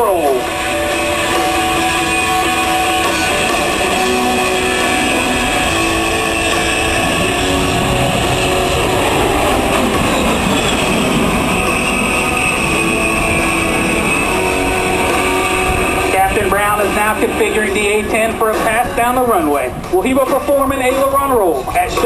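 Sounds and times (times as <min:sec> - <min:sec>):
music from loudspeakers: 0:00.0 - 0:09.3, 0:13.6 - 0:22.0
jet engines roaring: 0:00.0 - 0:22.0.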